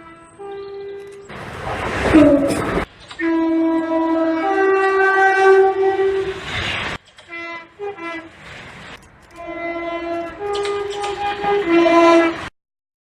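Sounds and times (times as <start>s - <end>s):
two-tone train horn: 0.0s - 1.3s, 2.1s - 8.4s, 9.3s - 12.5s.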